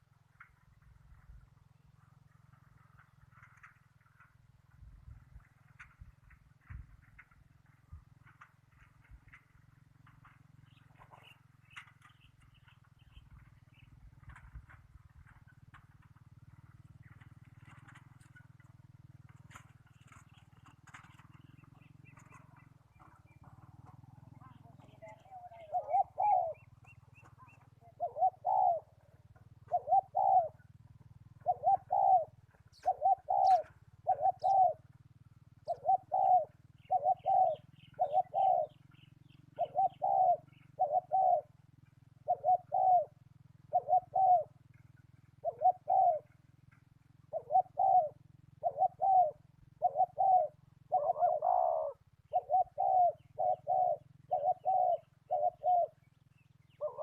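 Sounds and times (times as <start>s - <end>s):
doves cooing: 8.3s - 57.0s.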